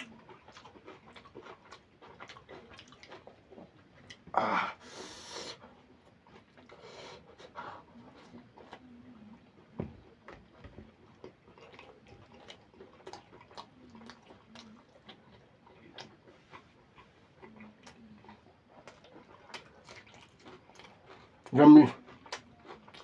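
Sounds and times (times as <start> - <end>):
wet chewing and lip-smacking: 0.0 - 4.3, 5.5 - 23.0.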